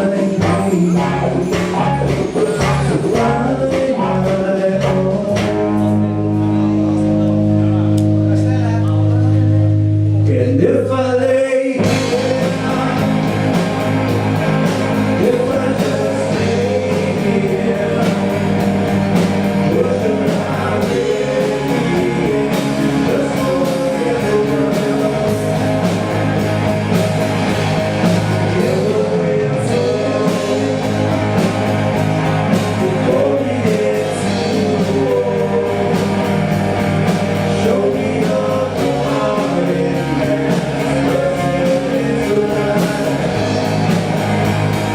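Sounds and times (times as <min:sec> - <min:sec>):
person singing: 0:00.0 - 0:07.2, 0:10.1 - 0:44.9
steady drums: 0:00.0 - 0:10.4, 0:11.8 - 0:44.9
bass: 0:00.0 - 0:44.9
guitar: 0:00.0 - 0:44.9.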